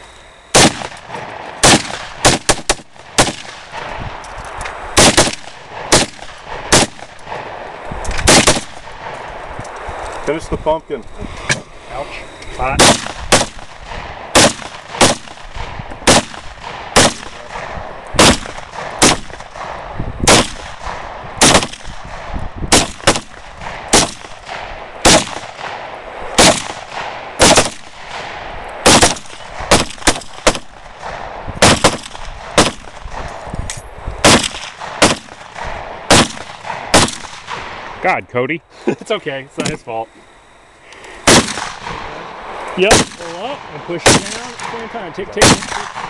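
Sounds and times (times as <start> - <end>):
rifle shots with echo: 0.5 - 4.0, 4.9 - 9.4, 12.7 - 33.4, 34.2 - 38.0, 41.2 - 46.0.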